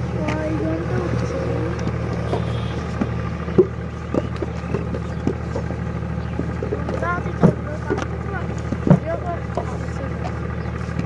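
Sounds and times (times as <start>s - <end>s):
low machine-like drone: 0.0s - 11.0s
wooden handcart knocks and clunks: 0.0s - 11.0s.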